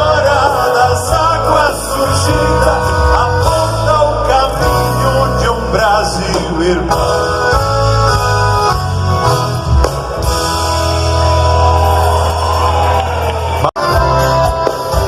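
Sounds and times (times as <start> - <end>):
guitar: 0.0 - 15.0
heavy bass: 0.0 - 15.0
live band instrumental: 0.0 - 15.0.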